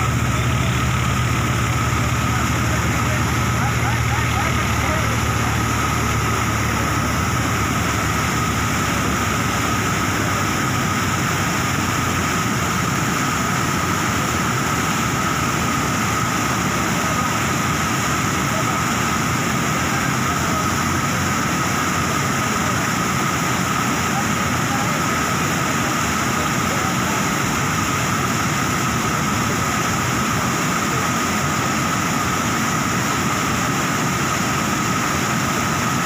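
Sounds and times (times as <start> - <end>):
water rushing down spillway: 0.0 - 36.0.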